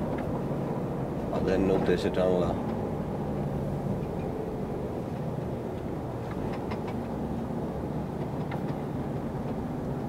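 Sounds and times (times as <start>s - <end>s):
truck diesel engine drone: 0.0s - 10.0s.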